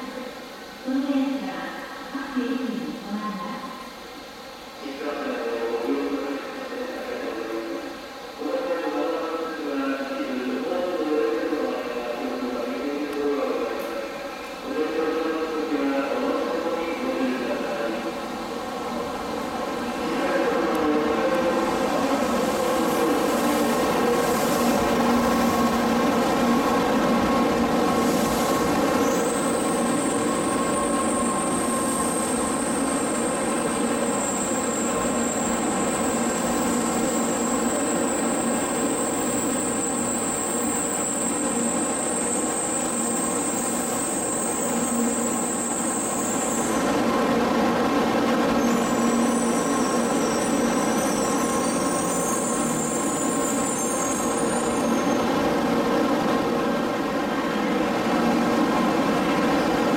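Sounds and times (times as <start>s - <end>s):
train slowing to a stop: 0.0s - 59.9s.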